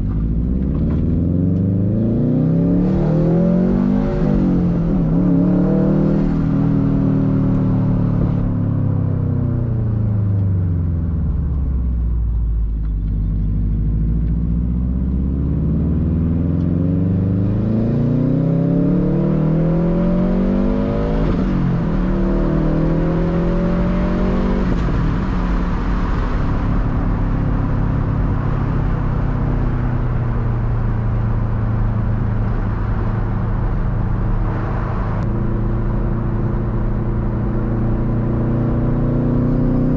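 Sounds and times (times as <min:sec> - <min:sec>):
car engine accelerating and shifting: 0:00.0 - 0:39.9.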